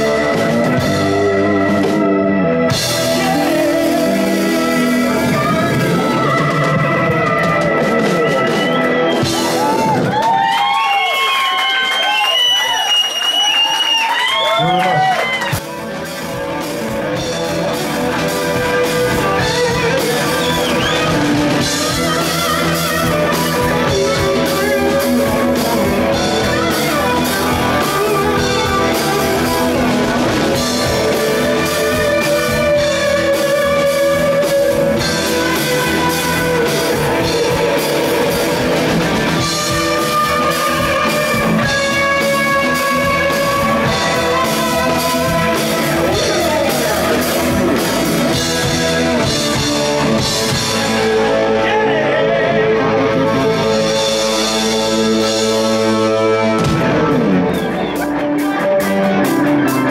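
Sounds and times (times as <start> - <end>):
bass guitar: 0.0 - 59.9
drum kit: 0.0 - 59.9
electric guitar lead: 0.0 - 59.9.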